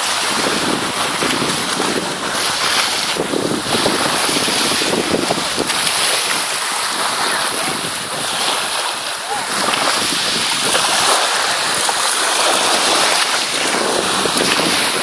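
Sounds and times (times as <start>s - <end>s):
waves lapping on pebble beach: 0.0s - 15.0s
wind rumbling on microphone: 0.0s - 15.0s.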